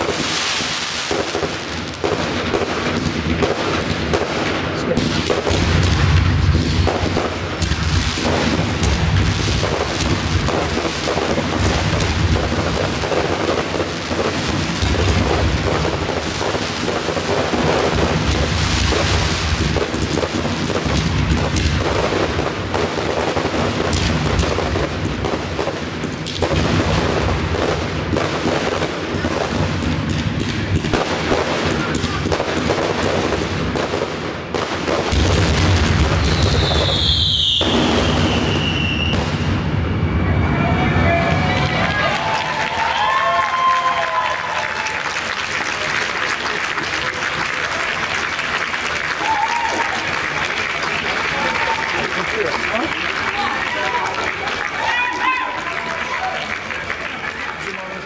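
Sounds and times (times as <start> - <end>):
fireworks bangs: 0.0 - 58.0
fireworks crackle: 0.0 - 58.0
rushing hiss of fireworks: 0.0 - 58.0.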